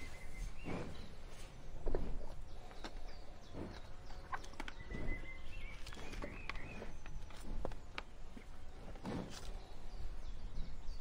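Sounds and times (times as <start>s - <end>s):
cattle tearing and chewing grass: 0.4s - 9.8s.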